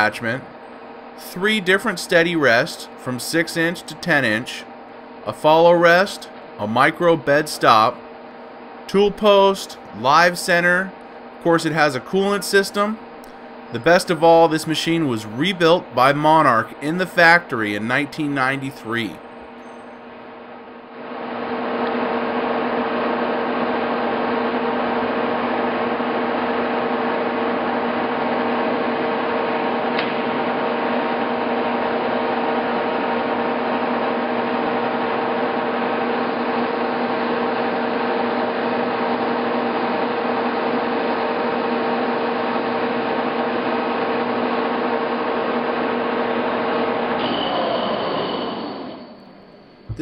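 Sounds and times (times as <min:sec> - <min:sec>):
lathe running with whine: 0:00.0 - 0:50.0.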